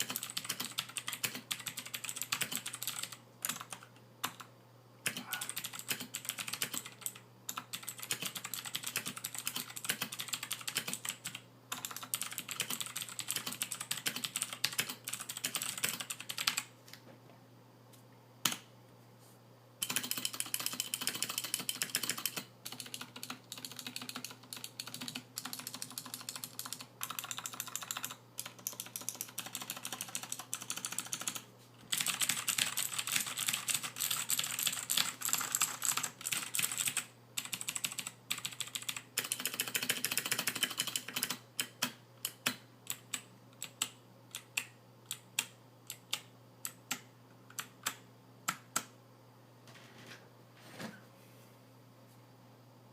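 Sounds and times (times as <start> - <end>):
mechanical keyboard typing: 0.0 - 16.7, 19.8 - 48.9.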